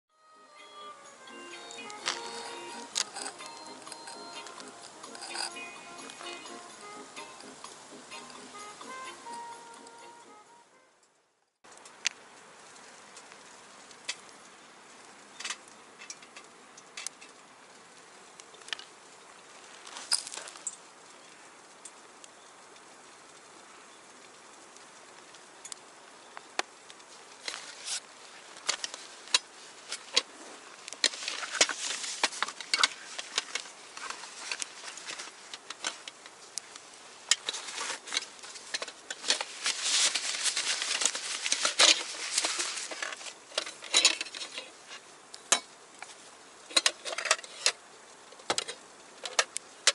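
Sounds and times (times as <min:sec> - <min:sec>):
wood fire crackling in a stove: 0:01.1 - 0:10.4, 0:11.5 - 0:49.9.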